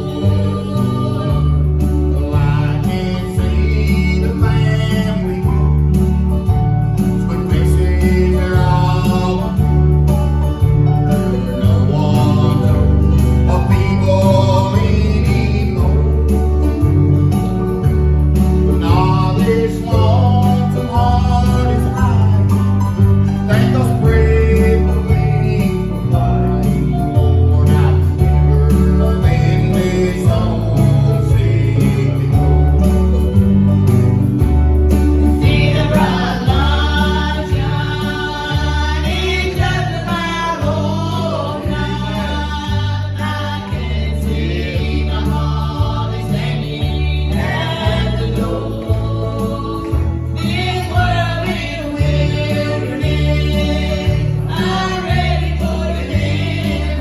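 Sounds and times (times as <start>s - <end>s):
bass line: 0.0s - 57.0s
guitar: 0.0s - 57.0s
voices singing gospel: 0.0s - 57.0s.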